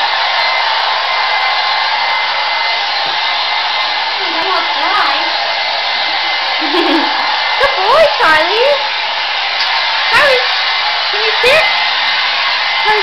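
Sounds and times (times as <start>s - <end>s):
hair dryer blowing with whine: 0.0s - 13.0s.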